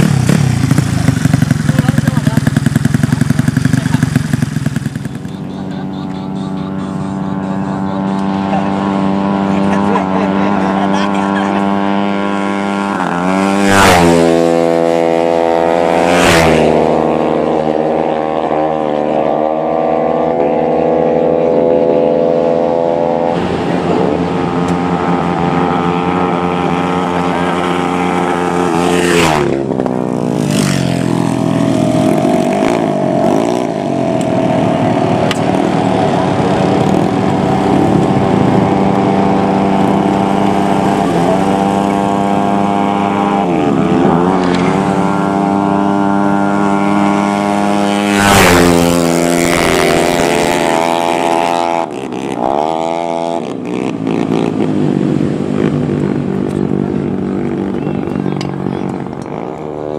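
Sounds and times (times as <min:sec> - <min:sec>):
racing motorcycle engine revving: 0:00.0 - 0:59.9.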